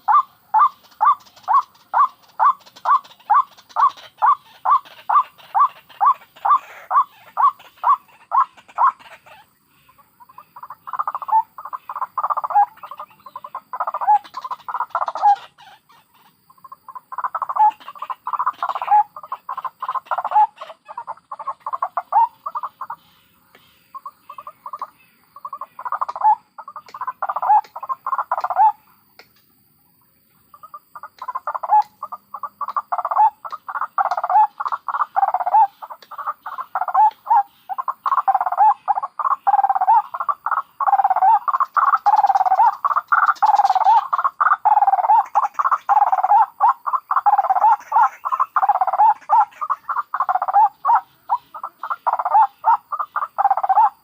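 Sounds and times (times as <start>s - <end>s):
waterhens calling: 0.0s - 28.8s, 30.5s - 54.0s.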